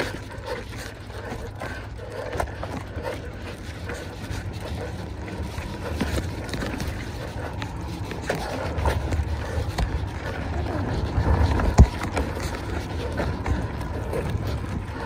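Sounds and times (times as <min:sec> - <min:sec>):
bike rumbling over rough ground: 0:00.0 - 0:15.0.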